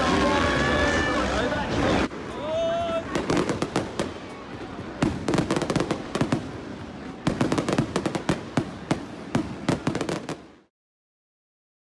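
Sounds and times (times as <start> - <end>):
fireworks crackling and banging: 0.0 - 10.7.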